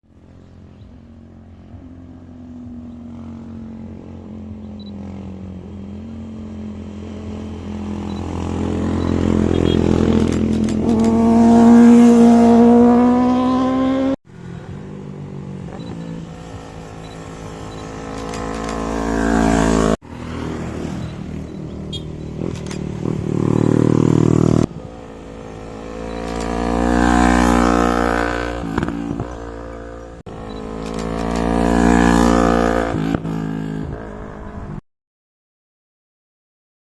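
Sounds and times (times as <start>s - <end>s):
engines passing close by: 0.1s - 34.8s.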